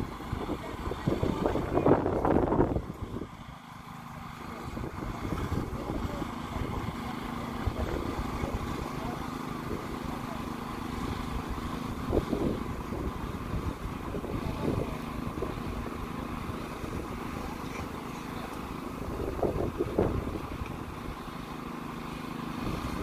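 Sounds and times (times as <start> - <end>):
vehicle engines idling: 0.0 - 23.0.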